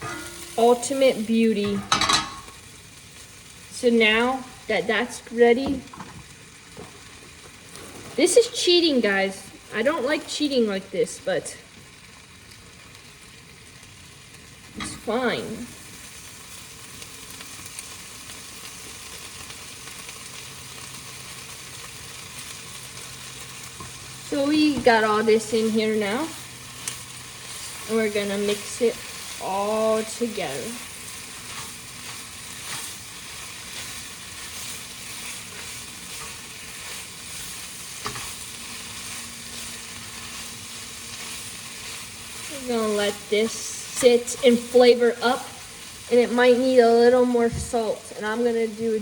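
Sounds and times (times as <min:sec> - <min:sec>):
food sizzling in frying pan: 0:00.0 - 0:49.0.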